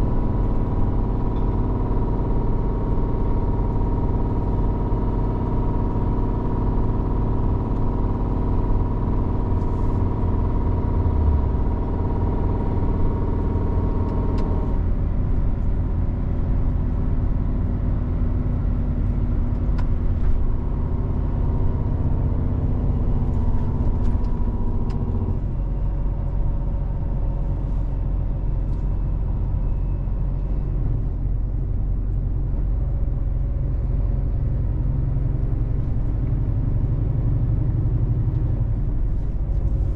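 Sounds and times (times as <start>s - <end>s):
diesel truck engine running: 0.0s - 39.9s
road rumble: 0.0s - 39.9s.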